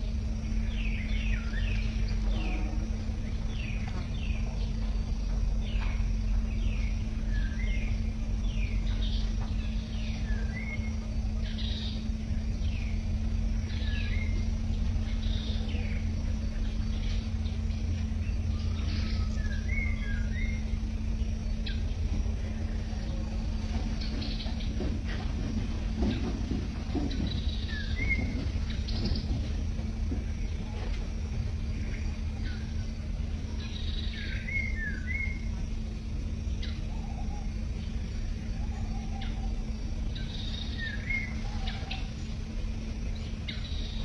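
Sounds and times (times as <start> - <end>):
low hum and rumble: 0.0 - 44.0
small birds chirping: 0.0 - 44.0.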